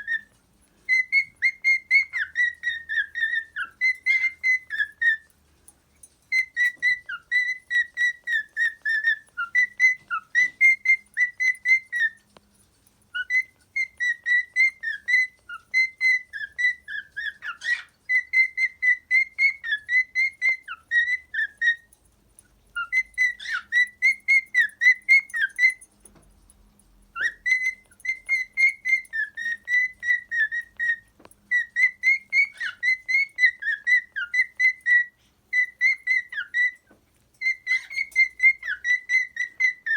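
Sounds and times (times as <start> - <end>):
cockatiel whistling: 0.0 - 0.3, 0.9 - 5.3, 6.3 - 12.3, 13.1 - 21.9, 22.8 - 25.8, 27.2 - 39.9.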